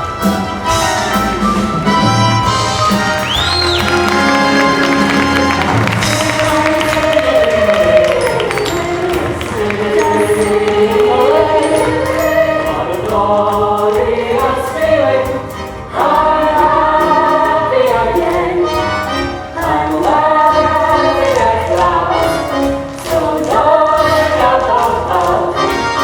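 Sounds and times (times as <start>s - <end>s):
chorus singing: 0.0s - 26.0s
instrumental accompaniment: 0.0s - 26.0s.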